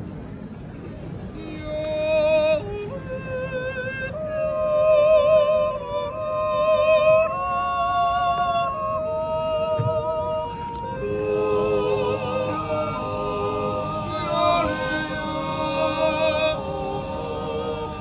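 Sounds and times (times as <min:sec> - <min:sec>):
group yodeling in harmony: 0:01.4 - 0:18.0.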